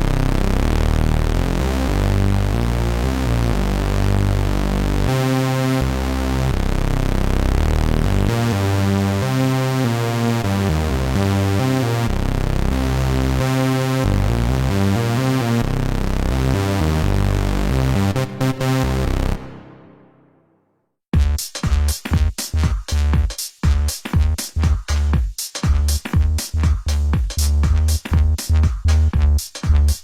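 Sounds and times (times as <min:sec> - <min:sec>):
synthesizer bass line: 0:00.0 - 0:20.4, 0:21.2 - 0:30.0.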